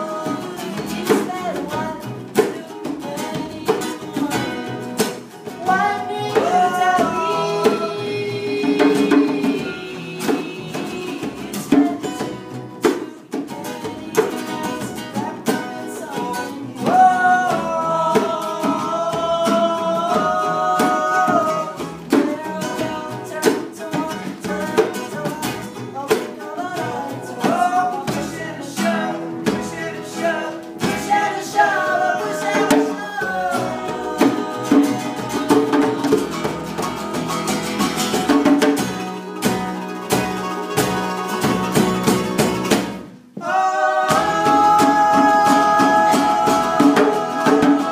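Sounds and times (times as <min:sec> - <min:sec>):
person singing: 0:00.0 - 0:37.5, 0:43.4 - 0:47.9
acoustic guitar: 0:00.0 - 0:47.9
percussion: 0:00.0 - 0:47.9.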